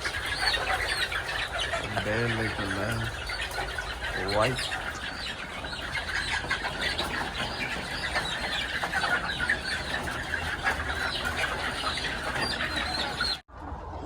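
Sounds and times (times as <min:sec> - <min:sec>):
hens clucking and squawking: 0:00.0 - 0:14.0.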